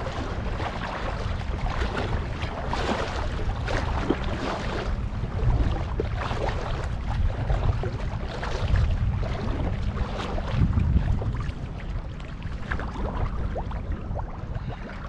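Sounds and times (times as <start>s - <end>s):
low rumble: 0.0s - 15.0s
water splashing and sloshing: 0.0s - 15.0s.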